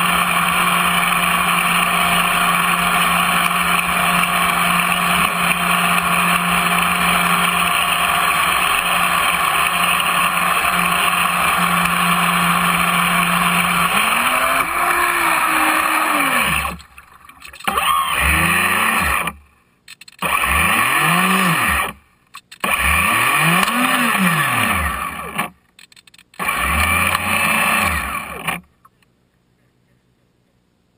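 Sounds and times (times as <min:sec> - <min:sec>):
motor revving in short blips: 0:00.0 - 0:19.4, 0:20.0 - 0:28.7
model boat motor running: 0:00.0 - 0:28.7.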